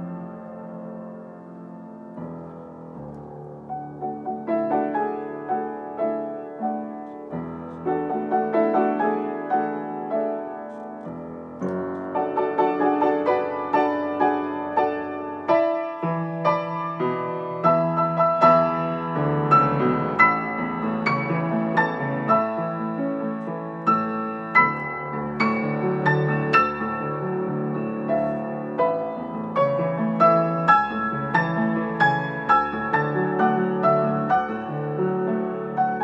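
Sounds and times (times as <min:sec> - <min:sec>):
solo piano playing: 0:00.0 - 0:36.0.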